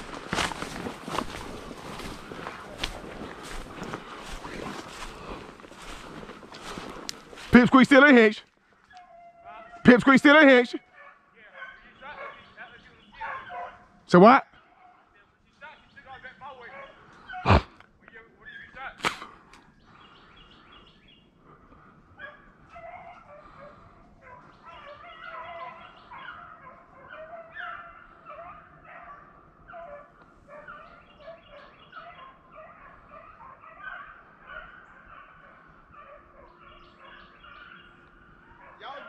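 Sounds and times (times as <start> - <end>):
hounds baying faintly: 0.0 - 39.0.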